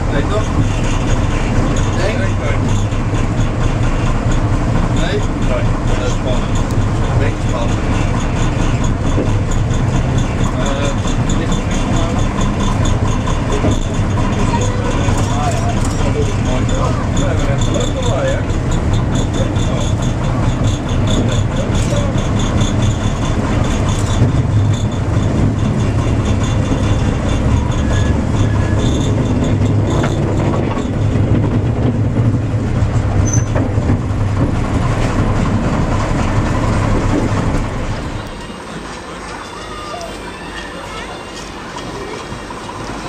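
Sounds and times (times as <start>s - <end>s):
train rumbling on track: 0.0s - 43.0s
wheels clattering over rail joints: 0.0s - 43.0s.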